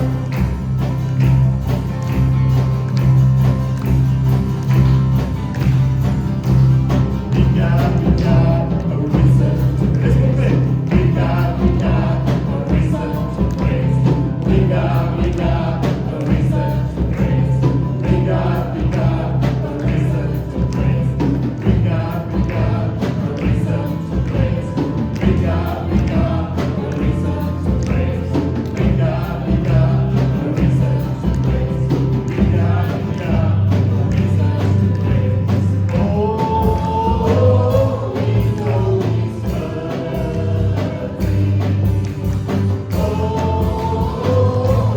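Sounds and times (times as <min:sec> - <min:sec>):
band with steady beat: 0:00.0 - 0:44.9
congregation singing praise song: 0:00.0 - 0:44.9.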